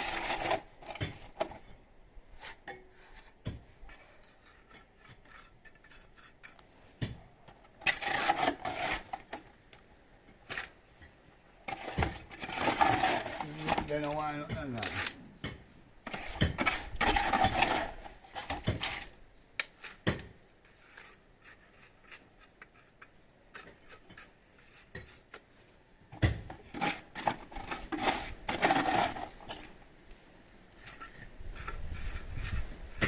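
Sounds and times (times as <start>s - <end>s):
hand tools scraping gritty material: 0.0s - 33.0s.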